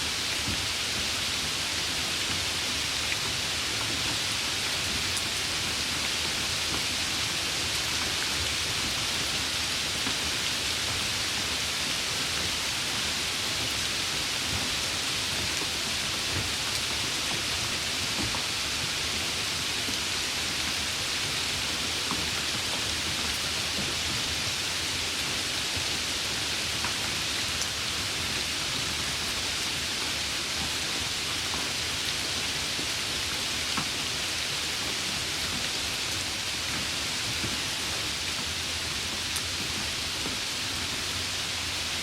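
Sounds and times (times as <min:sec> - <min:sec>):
rain hissing: 0:00.0 - 0:42.0.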